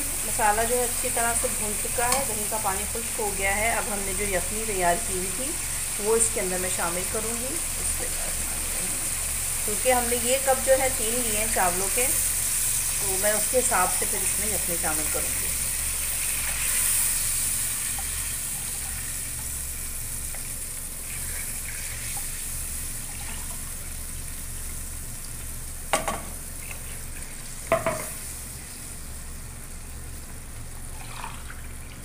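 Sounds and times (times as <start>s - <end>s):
spices sizzling in a wok: 0.0s - 32.0s.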